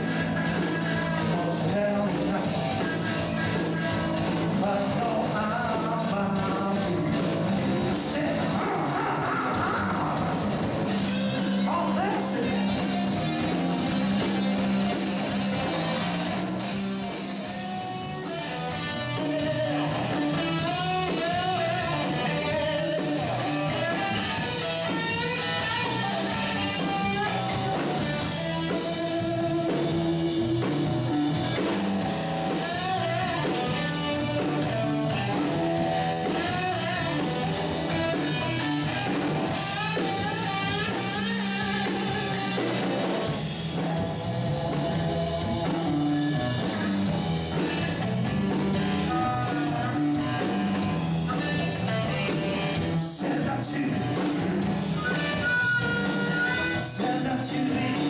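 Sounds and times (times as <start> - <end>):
electric guitar lead melody: 0.0 - 58.0
live rock band: 0.0 - 58.0.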